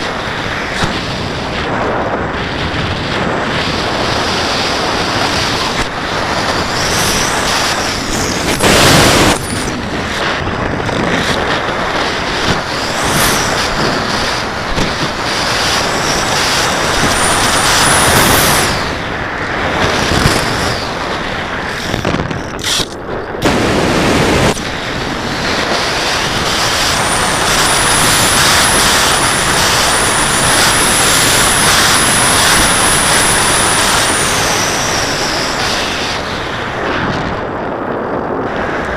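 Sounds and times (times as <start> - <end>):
thin high whine: 0.0 - 38.9
wind rushing over microphone: 0.0 - 38.9.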